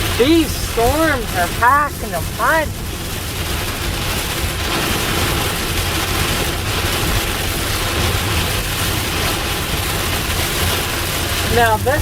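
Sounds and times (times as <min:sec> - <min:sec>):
rain and wet tyres hiss: 0:00.0 - 0:12.0
road and engine rumble: 0:00.0 - 0:12.0.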